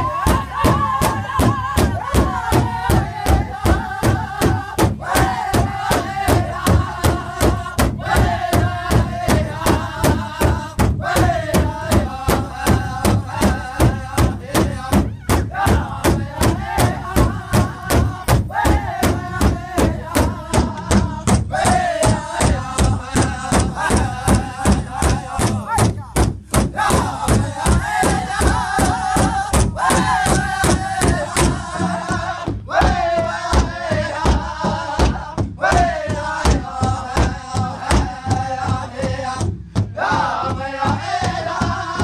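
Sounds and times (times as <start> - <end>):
bass drum beating: 0.0 - 42.0
group singing in unison: 0.0 - 42.0.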